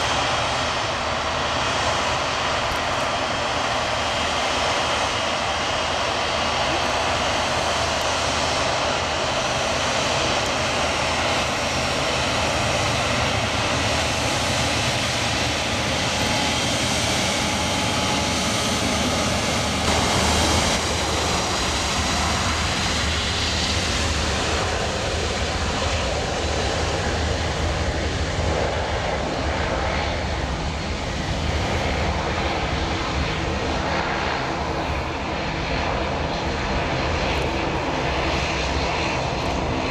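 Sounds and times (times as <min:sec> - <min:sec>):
jet engines taxiing: 0:00.0 - 0:39.9.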